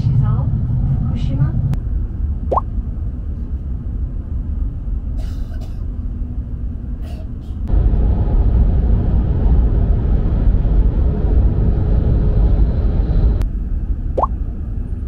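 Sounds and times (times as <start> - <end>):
train cabin rumble: 0.0 - 15.0.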